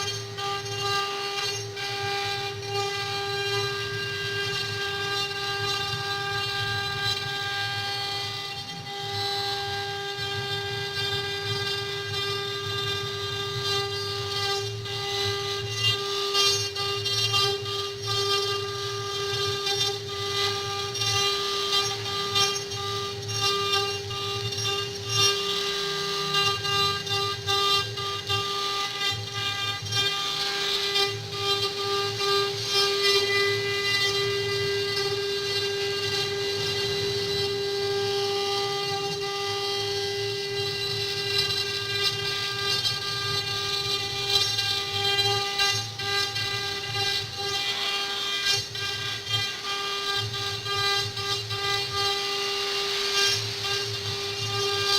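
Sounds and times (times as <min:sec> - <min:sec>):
bit rasping through wood: 0:00.0 - 0:54.9
router spindle whine: 0:00.0 - 0:54.9.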